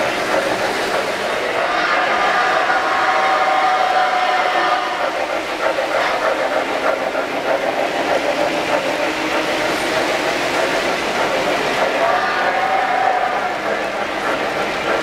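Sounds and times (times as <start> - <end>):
model train rumbling: 0.0 - 15.0.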